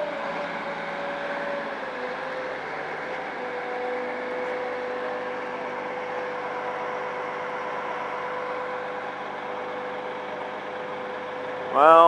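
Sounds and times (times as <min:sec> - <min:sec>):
crane diesel engine running: 0:00.0 - 0:12.0.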